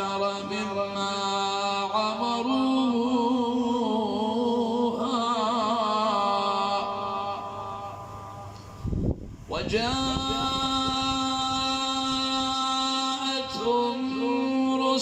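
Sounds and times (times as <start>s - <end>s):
man reciting melodically: 0.0s - 8.6s, 9.5s - 15.0s.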